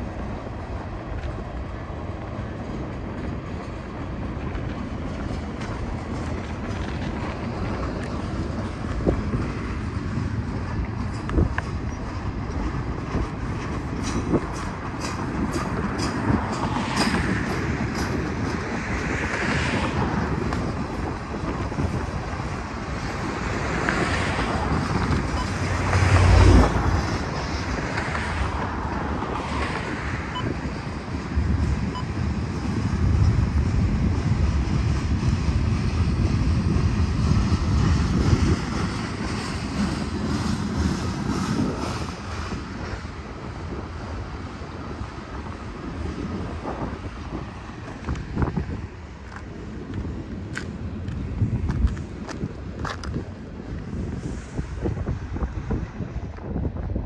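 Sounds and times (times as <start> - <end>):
train wheels rumbling on rail: 0.0 - 57.0
wind buffeting microphone: 0.0 - 57.0.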